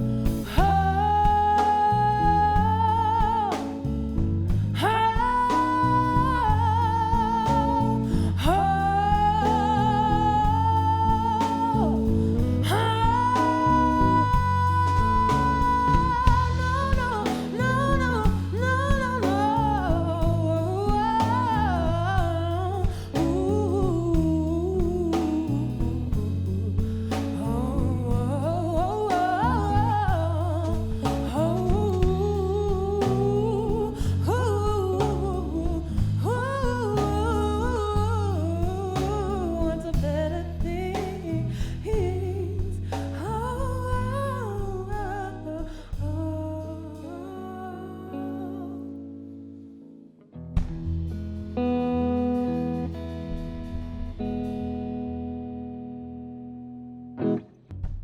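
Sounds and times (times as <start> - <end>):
woman singing: 0.0 - 49.6
guitar accompaniment: 0.0 - 58.0.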